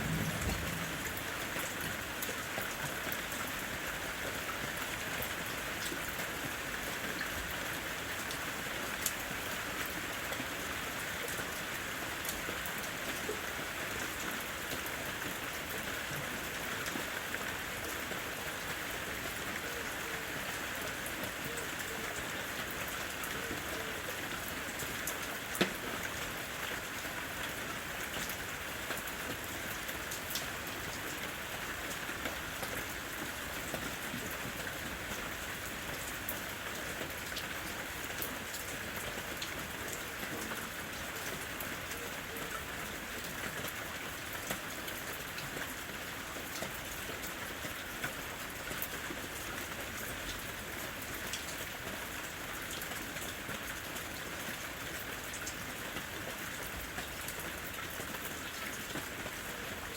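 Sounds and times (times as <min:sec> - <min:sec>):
rain falling in forest: 0:00.0 - 0:59.9.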